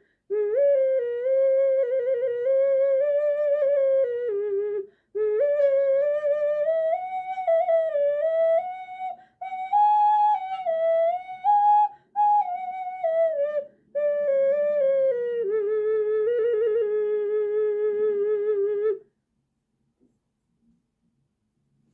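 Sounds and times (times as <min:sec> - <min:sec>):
ocarina melody: 0:00.3 - 0:19.1.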